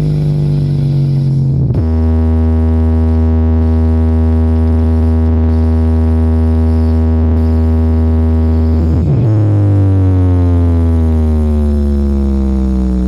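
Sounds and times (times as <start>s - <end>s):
buzzy electronic bass note: 0.0s - 13.0s.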